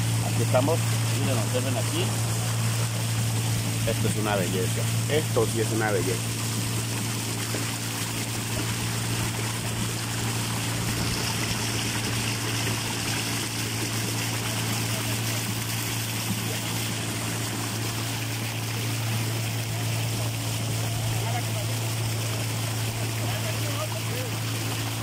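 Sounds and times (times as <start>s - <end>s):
boat motor running: 0.0s - 25.0s
water splashing along hull: 0.0s - 25.0s.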